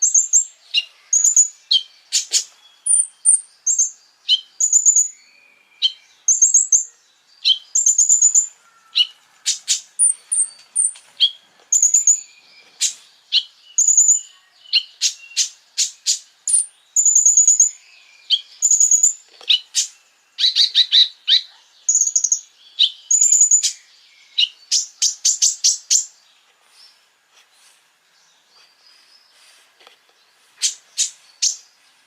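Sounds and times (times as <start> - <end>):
songbird singing chips and trills: 0.0 - 27.0, 28.1 - 32.0.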